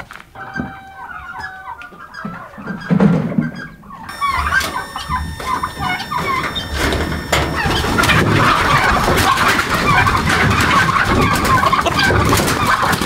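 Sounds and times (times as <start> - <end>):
chickens clucking and squawking: 0.4 - 13.0.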